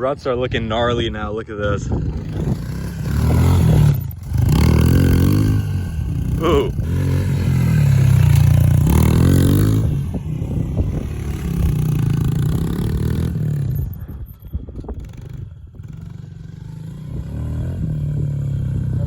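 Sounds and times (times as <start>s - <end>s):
pit bike engine revving: 1.7s - 19.0s.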